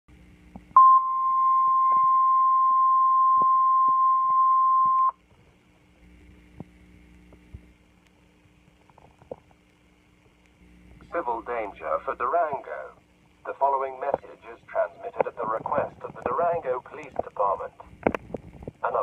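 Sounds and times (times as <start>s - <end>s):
faint low hum: 0.1s - 19.0s.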